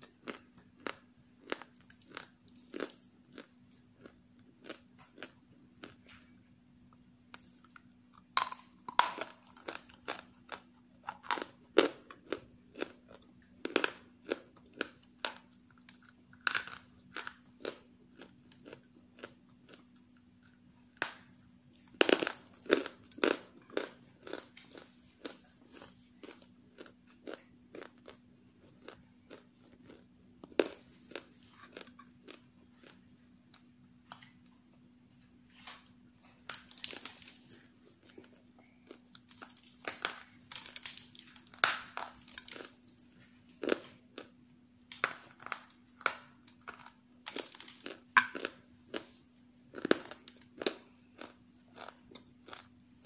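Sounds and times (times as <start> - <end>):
clay crunching while chewed: 0.0 - 34.6, 35.2 - 53.0.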